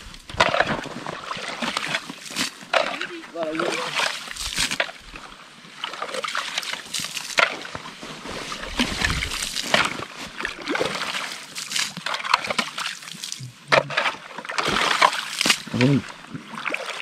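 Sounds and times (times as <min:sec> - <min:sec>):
water and slush sloshing: 0:00.0 - 0:17.0.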